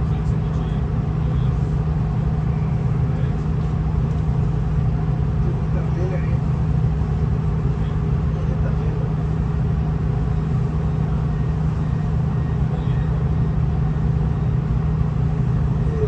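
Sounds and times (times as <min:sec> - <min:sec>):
diesel railcar rumbling: 0:00.0 - 0:16.0.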